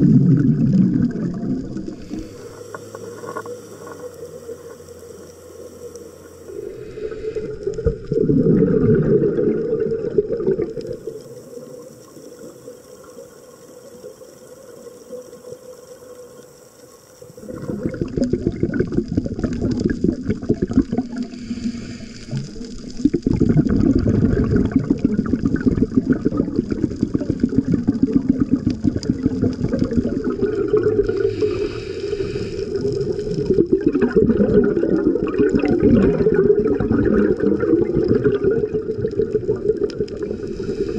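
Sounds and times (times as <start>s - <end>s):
underwater exhaled bubbles rumbling: 0.0s - 5.1s, 5.8s - 13.2s, 17.3s - 40.9s.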